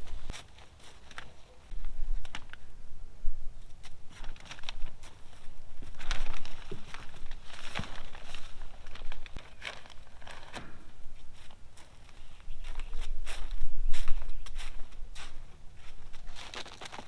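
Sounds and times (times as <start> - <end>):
plastic covers rustling and crinkling: 0.0 - 2.7, 3.8 - 17.0.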